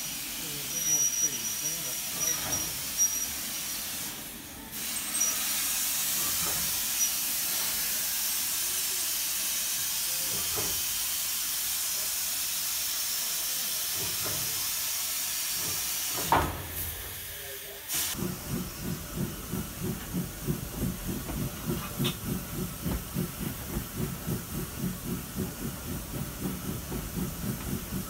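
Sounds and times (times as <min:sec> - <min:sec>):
steam and passing air hissing: 0:00.0 - 0:28.0.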